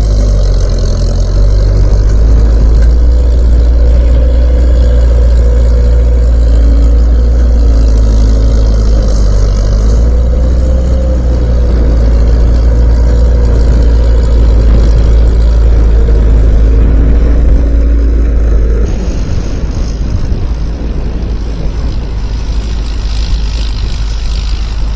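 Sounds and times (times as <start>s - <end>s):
skid steer engine running: 0.0s - 24.9s.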